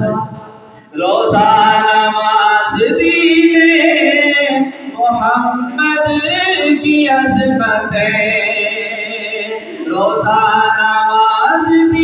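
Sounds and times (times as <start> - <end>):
man singing unaccompanied: 0.9 - 12.0.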